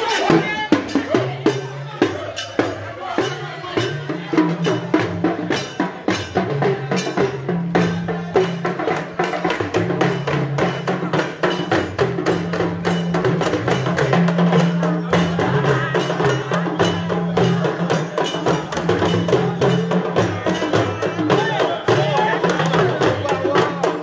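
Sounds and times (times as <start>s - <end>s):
drum ensemble playing: 0.0s - 24.0s.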